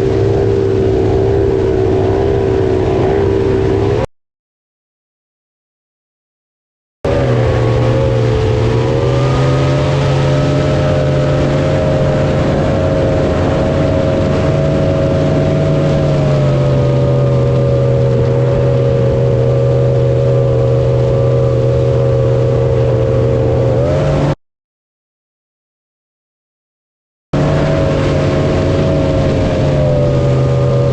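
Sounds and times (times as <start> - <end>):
engine running steadily: 0.0 - 4.1, 7.0 - 24.4, 27.4 - 30.9.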